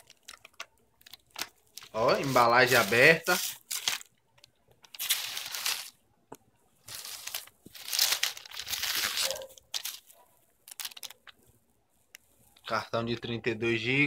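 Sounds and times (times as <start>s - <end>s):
bubble wrap crinkling: 0.0s - 6.0s, 6.7s - 12.8s.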